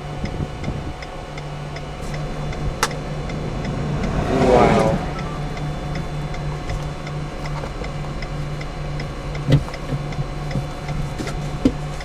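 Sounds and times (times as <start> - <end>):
car cabin hum: 0.0 - 12.0
turn signal ticking: 0.0 - 12.0.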